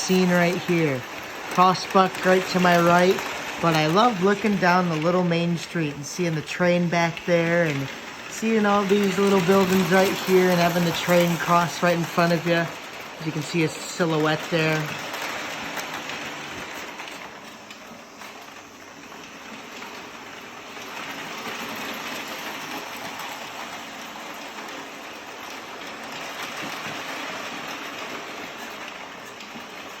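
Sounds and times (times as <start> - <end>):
model train rumbling on track: 0.0 - 30.0.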